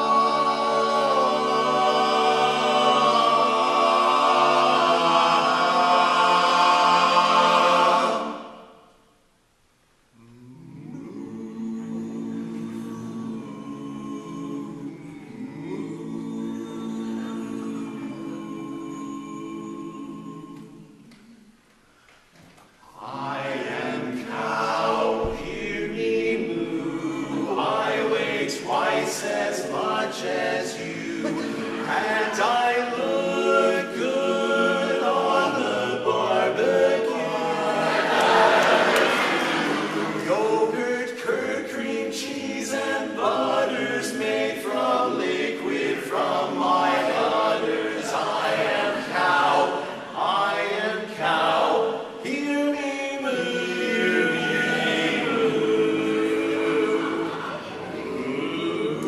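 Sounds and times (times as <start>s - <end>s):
men's chorus singing a cappella: 0.0s - 8.8s, 10.2s - 21.5s, 22.9s - 59.0s.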